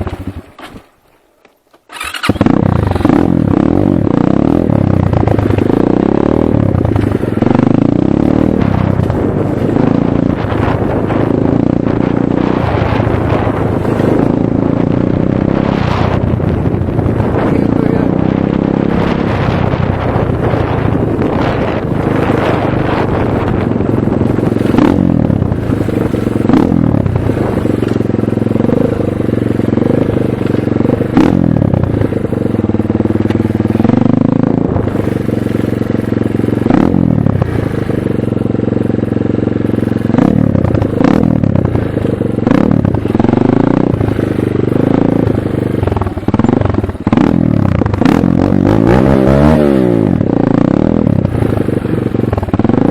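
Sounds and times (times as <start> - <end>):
motocross bike engine revving: 0.0 - 0.9, 1.9 - 52.9.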